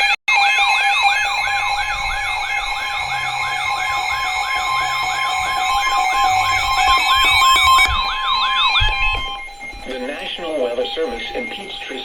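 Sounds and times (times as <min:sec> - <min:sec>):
siren-like whoop: 0:00.3 - 0:12.0
steady two-note alert tone: 0:00.6 - 0:12.0.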